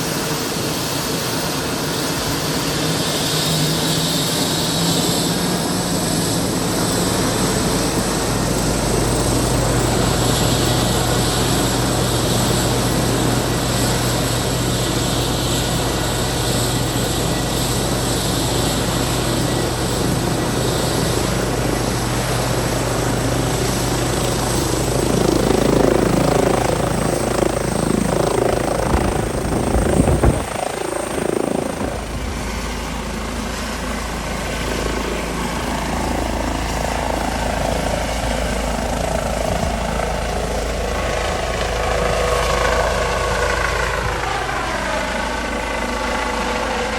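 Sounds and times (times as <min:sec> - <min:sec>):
helicopter rotor and turbines drone: 0:00.0 - 0:46.9
gusty rumbling of rotor downwash: 0:04.4 - 0:46.9.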